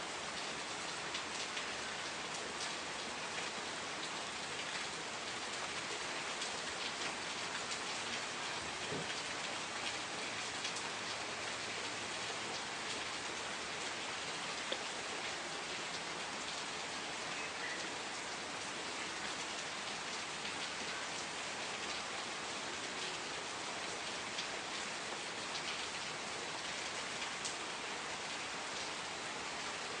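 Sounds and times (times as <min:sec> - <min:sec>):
rain pattering: 0:00.1 - 0:30.0.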